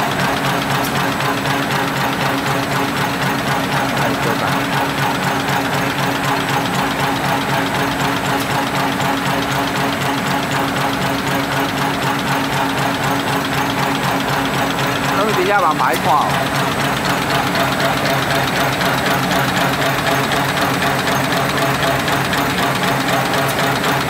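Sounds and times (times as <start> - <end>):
folding machine clattering: 0.0 - 24.0.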